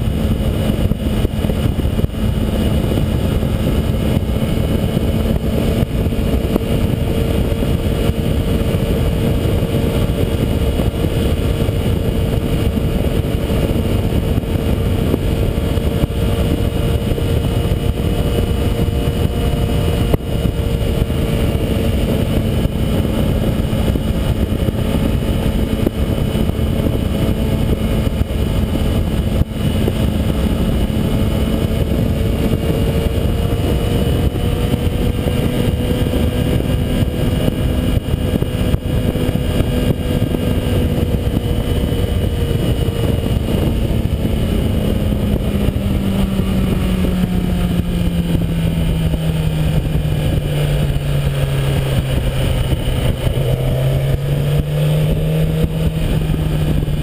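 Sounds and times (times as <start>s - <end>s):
heavy wind noise: 0.0s - 57.0s
motorcycle engine running: 0.0s - 57.0s.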